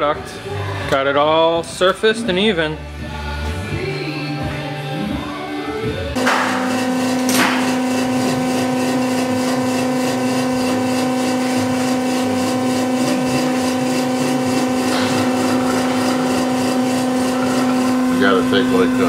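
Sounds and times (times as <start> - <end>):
electric motor humming: 2.0 - 19.0.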